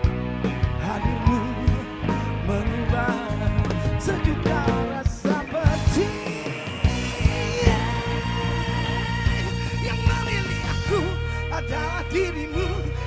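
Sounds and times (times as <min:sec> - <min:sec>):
bass: 0:00.0 - 0:13.0
drums: 0:00.0 - 0:13.0
guitars: 0:00.0 - 0:13.0.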